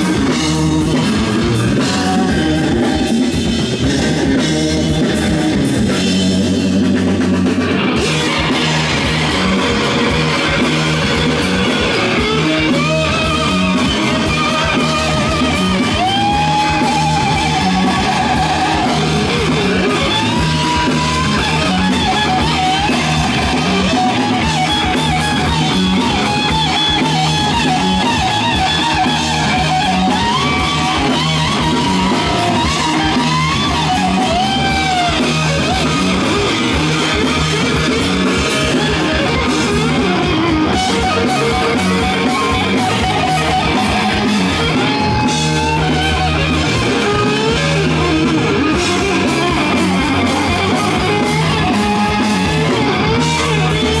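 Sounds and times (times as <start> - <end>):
lead guitar bent notes: 0.0 - 54.0
live rock band playing: 0.0 - 54.0.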